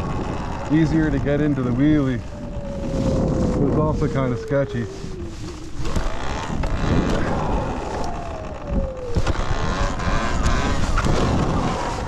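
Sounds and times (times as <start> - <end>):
electric motor whining: 0.0 - 12.0
wind and trail rumble: 0.0 - 12.0.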